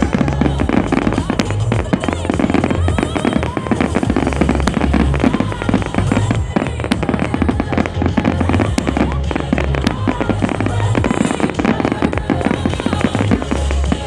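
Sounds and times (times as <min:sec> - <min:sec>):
fireworks bangs: 0:00.0 - 0:14.0
fireworks crackling: 0:00.0 - 0:14.0
music with bass line: 0:00.0 - 0:14.0.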